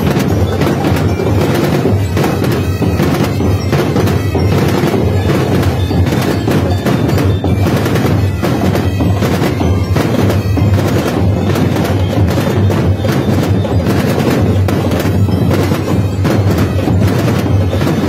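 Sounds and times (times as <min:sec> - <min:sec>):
snare drum rattle: 0:00.0 - 0:18.0.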